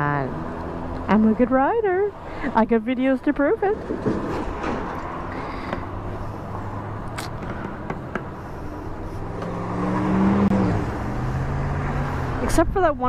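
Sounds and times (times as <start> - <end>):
motorcycle engine idling and revving: 0.0 - 4.2, 5.1 - 13.0.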